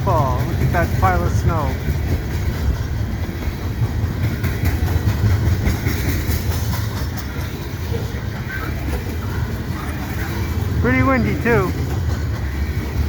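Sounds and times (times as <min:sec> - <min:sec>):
train rumble: 0:00.0 - 0:13.0
train wheels clacking on rails: 0:00.0 - 0:13.0.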